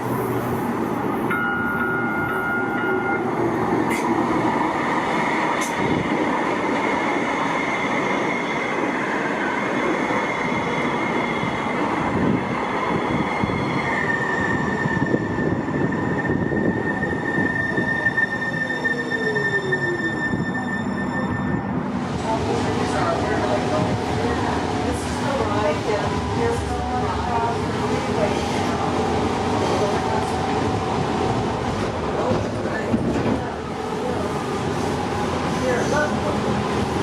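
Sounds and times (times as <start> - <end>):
high-pitched train whine: 0.0 - 37.0
light rail train rumbling past: 0.0 - 37.0.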